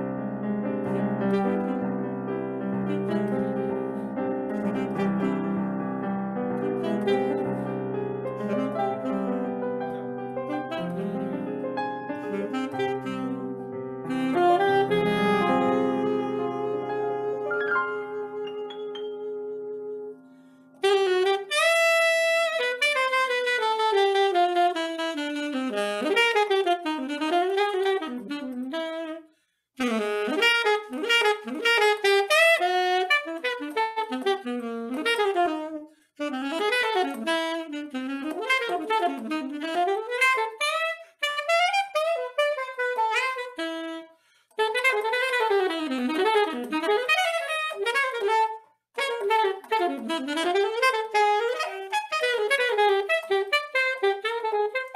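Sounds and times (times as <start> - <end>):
saxophone playing melodic runs: 0.7 - 54.9.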